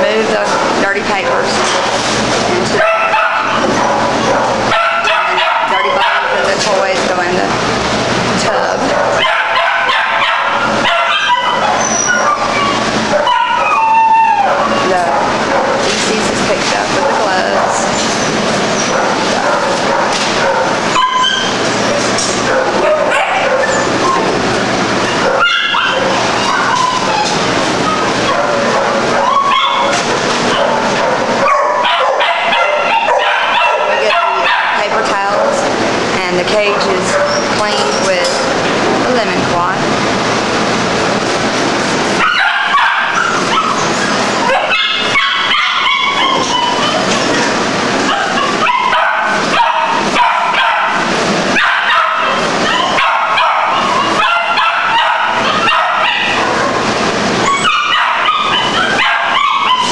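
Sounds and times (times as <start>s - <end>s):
many dogs barking: 0.0s - 7.2s, 8.5s - 24.4s, 25.0s - 35.7s, 36.6s - 38.4s, 42.1s - 59.9s.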